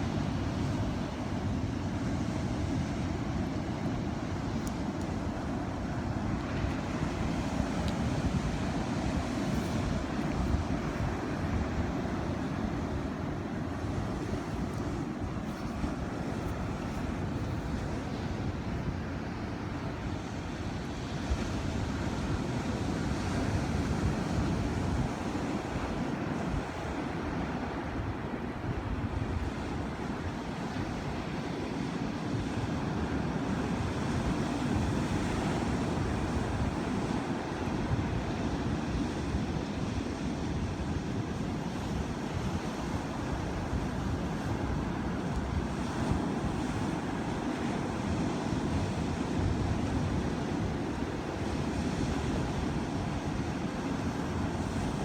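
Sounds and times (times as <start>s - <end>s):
ocean waves breaking: 0.0s - 55.0s
wind rumble on microphone: 0.0s - 55.0s.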